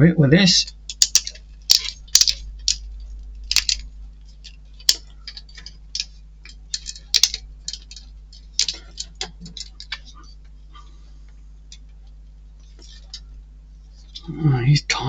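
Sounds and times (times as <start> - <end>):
steady low hum: 0.0 - 15.0
small parts and tools clicking: 0.6 - 10.6, 11.7 - 14.3.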